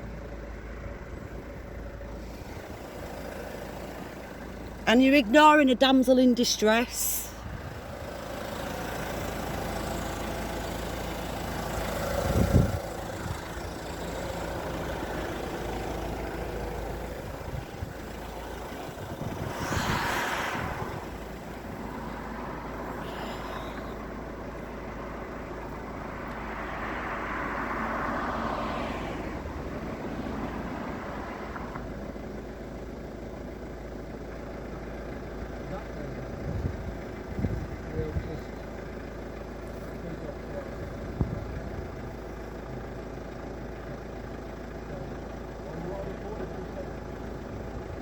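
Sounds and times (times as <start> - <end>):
engine rumble: 0.0 - 48.0
vehicles passing: 0.0 - 48.0.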